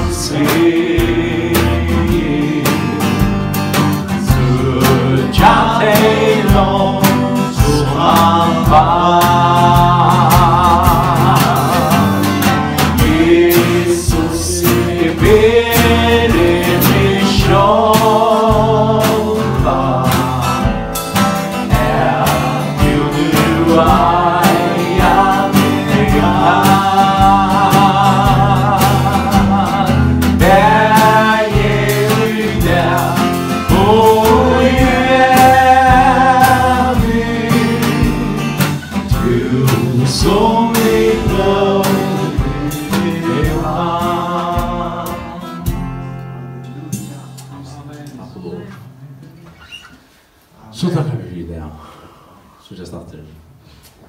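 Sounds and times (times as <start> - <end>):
man singing into a microphone: 0.0 - 3.3, 4.2 - 20.8, 21.7 - 45.7
acoustic guitar strumming: 0.0 - 49.9.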